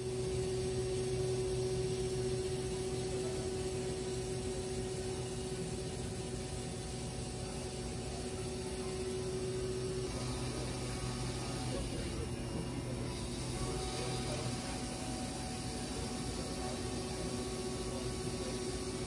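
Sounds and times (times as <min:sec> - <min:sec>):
milling machine hum: 0:00.0 - 0:19.0
steady machine tone: 0:00.0 - 0:19.0.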